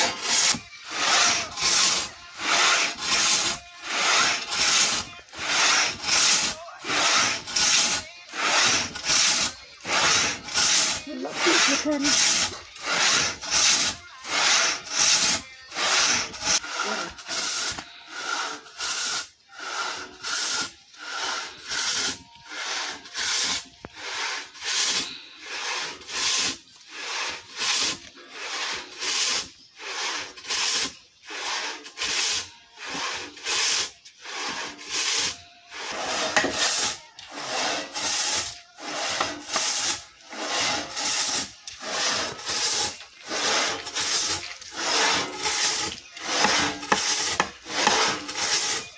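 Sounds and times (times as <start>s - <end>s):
pit saw rasping through log: 0.0s - 48.9s.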